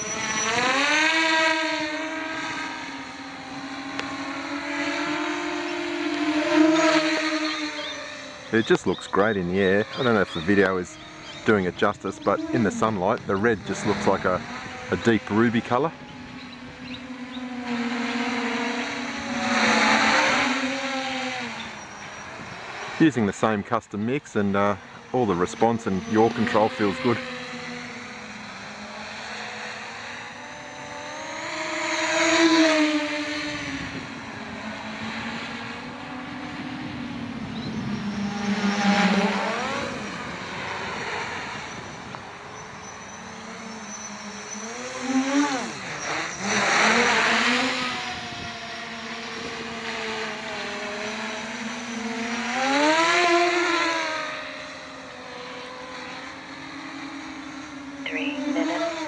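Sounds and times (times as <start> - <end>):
drone propellers buzzing: 0.0 - 59.0.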